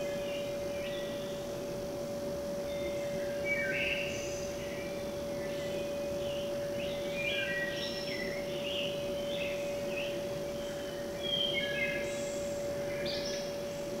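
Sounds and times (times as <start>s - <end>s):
birds chirping and warbling: 0.0s - 1.6s, 2.5s - 14.0s
steady hum: 0.0s - 14.0s.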